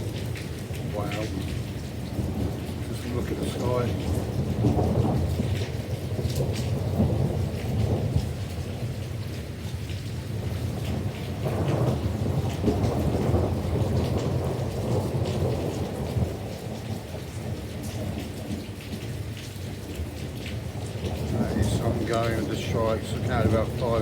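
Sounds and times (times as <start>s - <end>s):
steady rain falling: 0.0s - 24.0s
thunder rumbling: 0.0s - 24.0s.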